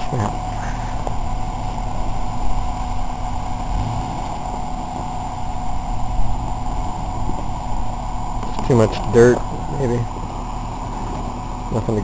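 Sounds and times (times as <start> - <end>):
engine running unevenly under load: 0.0 - 12.0.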